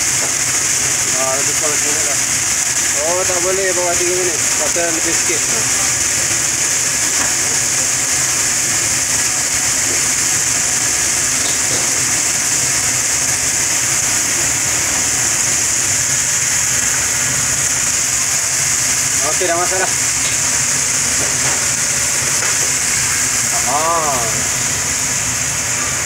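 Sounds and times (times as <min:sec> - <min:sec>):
oil sizzling and bubbling: 0:00.0 - 0:26.0.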